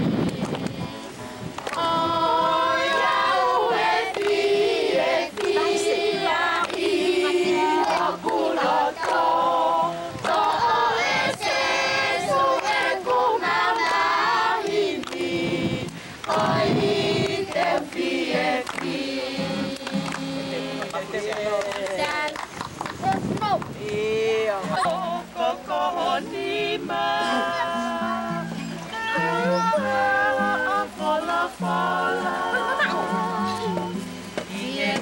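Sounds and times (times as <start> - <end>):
children's choir singing: 0.0 - 22.3, 23.8 - 35.0.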